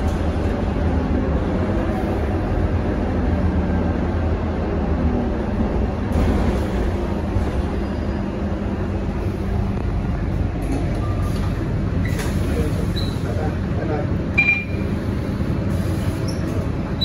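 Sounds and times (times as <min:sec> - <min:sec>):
bus engine drone: 0:00.0 - 0:17.0
road rumble: 0:00.0 - 0:17.0.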